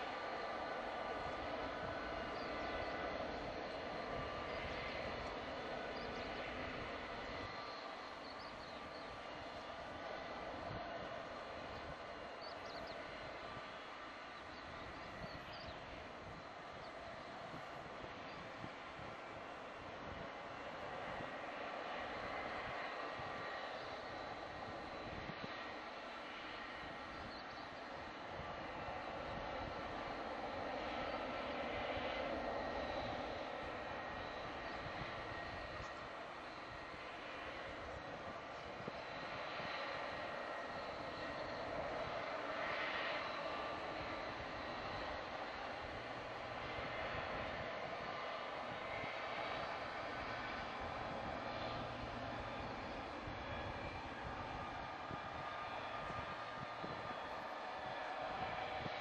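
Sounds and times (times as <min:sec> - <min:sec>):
faint high whine: 0:00.0 - 0:59.0
jet engines running: 0:00.0 - 0:59.0.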